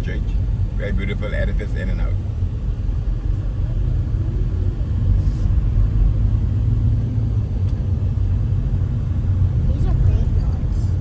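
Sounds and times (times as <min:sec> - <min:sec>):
vehicle road rumble from inside: 0:00.0 - 0:11.0.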